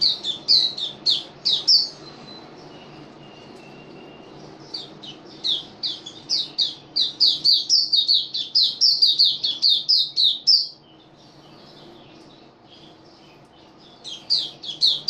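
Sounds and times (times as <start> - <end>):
small bird singing high notes: 0.0 - 10.9, 12.8 - 15.0.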